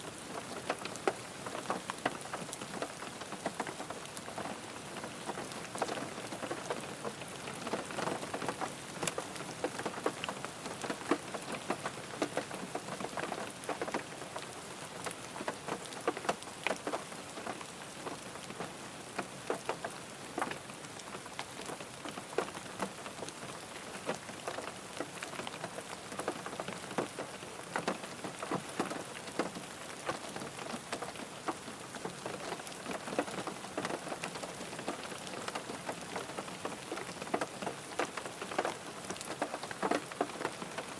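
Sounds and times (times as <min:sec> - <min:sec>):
rain pattering on a car: 0:00.0 - 0:40.9.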